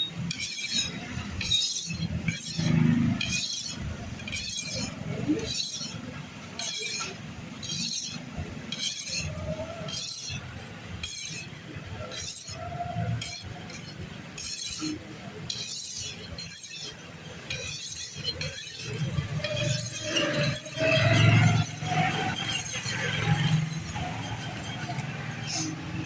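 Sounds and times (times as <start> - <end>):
knife scraping on sharpener: 0.1 - 25.8.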